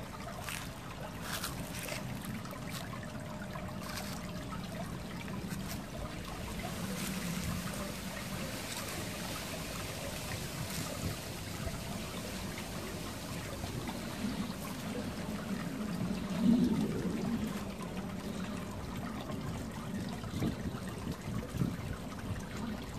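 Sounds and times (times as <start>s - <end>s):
water trickling: 0.0s - 22.9s.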